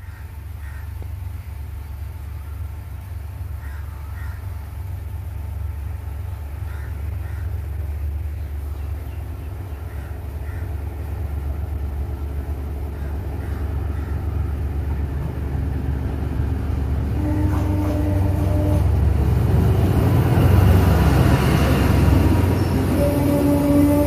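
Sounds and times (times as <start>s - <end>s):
diesel locomotive rumble: 0.0s - 24.0s.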